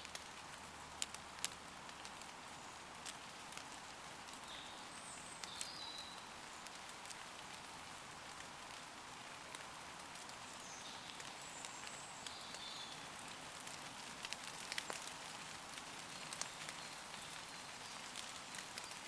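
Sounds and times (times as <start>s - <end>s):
light rain on leaves: 0.0s - 19.0s.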